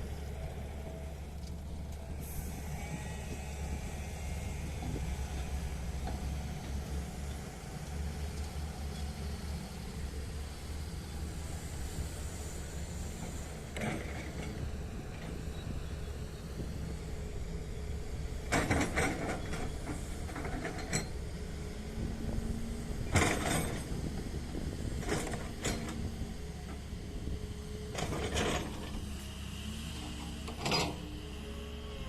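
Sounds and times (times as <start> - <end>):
heavy machine engine humming: 0.0 - 32.0.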